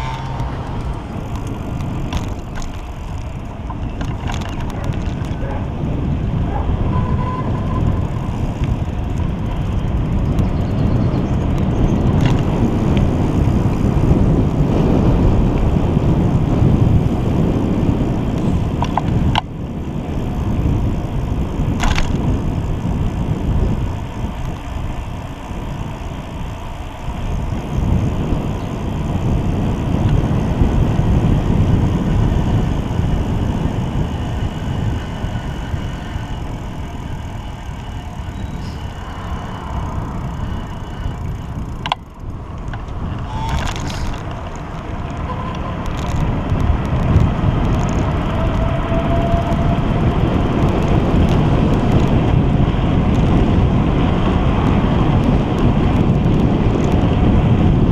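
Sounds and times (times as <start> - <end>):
bicycle tyre rumble: 0.0 - 57.9
wind buffeting microphone: 0.0 - 57.9.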